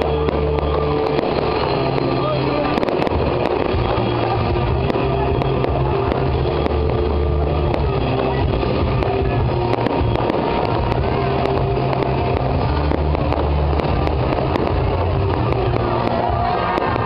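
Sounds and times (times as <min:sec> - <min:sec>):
fireworks crackling pops: 0:00.0 - 0:17.0
fireworks rushing roar: 0:00.0 - 0:17.0.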